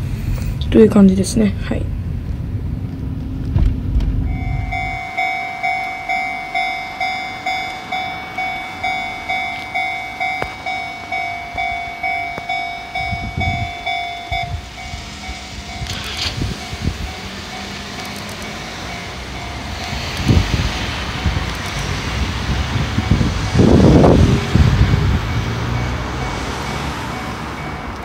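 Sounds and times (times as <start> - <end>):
road noise rumble: 0.0 - 28.0
level-crossing warning bell: 4.3 - 28.0.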